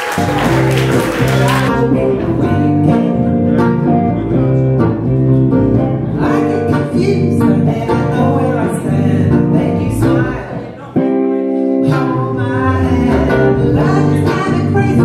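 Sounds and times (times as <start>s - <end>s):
electric guitars: 0.0s - 15.0s
person singing: 0.0s - 15.0s
electric bass: 0.2s - 15.0s.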